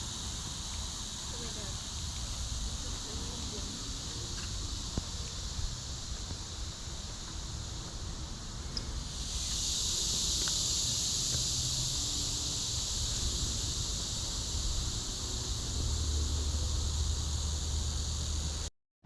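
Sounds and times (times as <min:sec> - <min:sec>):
insect chorus buzzing: 0:00.0 - 0:18.7.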